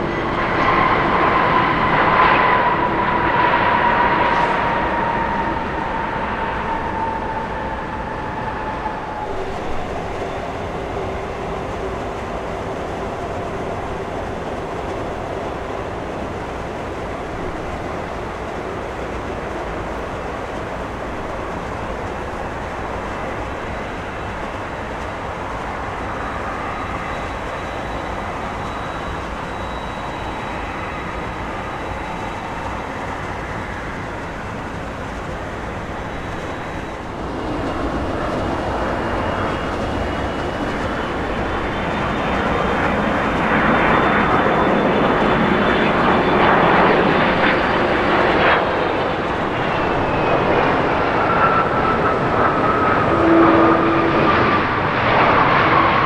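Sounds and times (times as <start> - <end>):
high jet engine whine: 0.0 - 56.0
jet engines roaring: 0.0 - 56.0.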